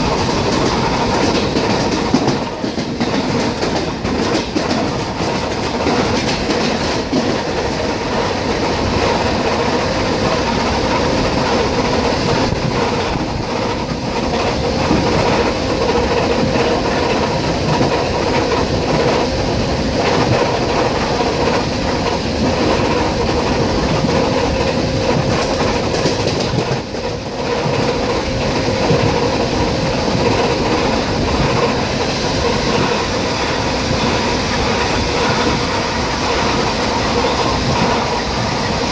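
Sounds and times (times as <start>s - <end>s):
train rumble: 0.0s - 38.9s
train wheels clacking over rail joints: 0.0s - 38.9s.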